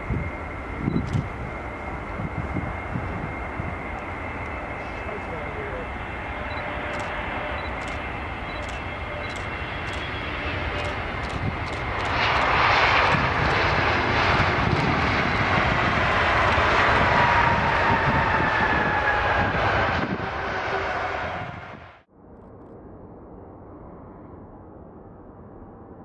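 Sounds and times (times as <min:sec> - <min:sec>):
engine whine falling in pitch: 0:00.0 - 0:26.0
jet engines on landing rollout: 0:00.0 - 0:26.0.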